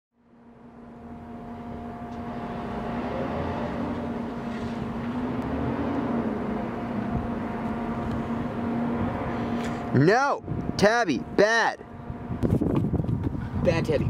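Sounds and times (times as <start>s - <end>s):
engine drone: 0.2s - 13.7s.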